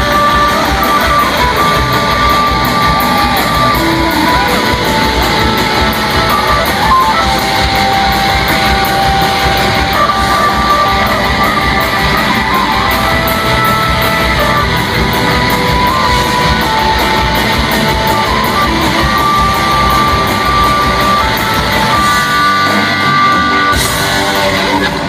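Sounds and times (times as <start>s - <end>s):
live rock band playing: 0.0s - 25.0s
long held guitar notes: 0.0s - 25.0s
steady drum beat: 0.0s - 25.0s.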